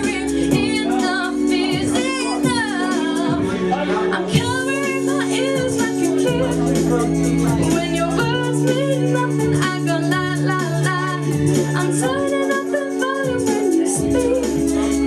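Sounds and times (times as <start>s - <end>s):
pop music with held chords: 0.0s - 15.0s
sung melody: 0.0s - 15.0s.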